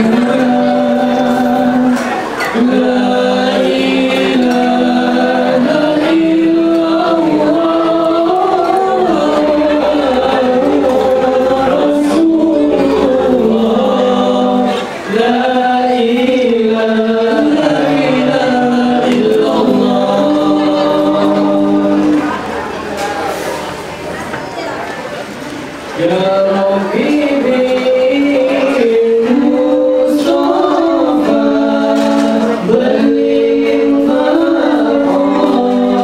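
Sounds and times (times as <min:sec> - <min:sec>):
male choir singing: 0:00.0 - 0:22.6, 0:26.0 - 0:36.0.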